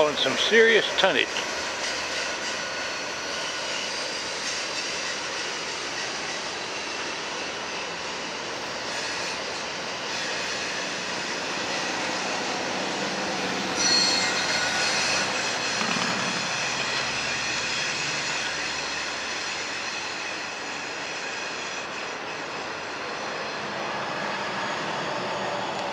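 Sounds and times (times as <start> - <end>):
train wheels rumbling on rail: 0.0 - 25.9
high-pitched wheel squeal: 1.6 - 25.9.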